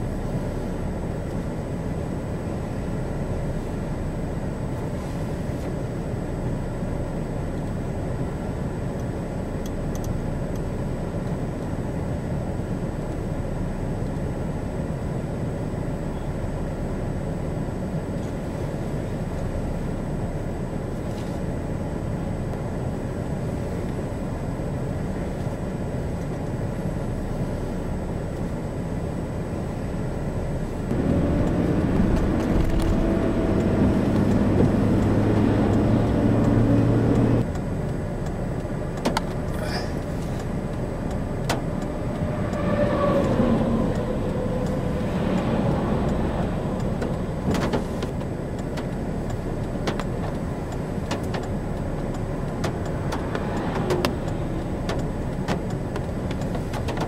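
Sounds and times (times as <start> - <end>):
car driving on highway: 0.0 - 57.0.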